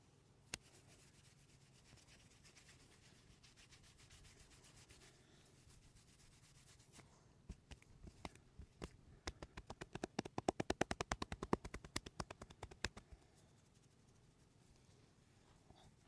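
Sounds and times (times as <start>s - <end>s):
hands rubbing skin and hair: 0.5s - 14.9s.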